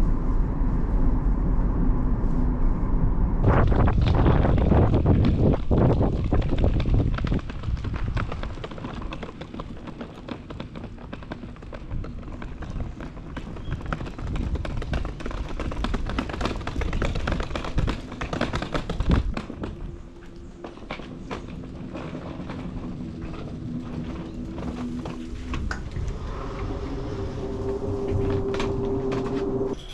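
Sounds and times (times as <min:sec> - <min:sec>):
wind rumble on microphone: 0:00.0 - 0:29.9.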